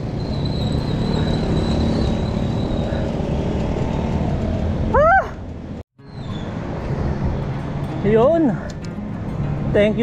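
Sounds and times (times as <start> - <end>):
road and traffic rumble: 0.0 - 10.0.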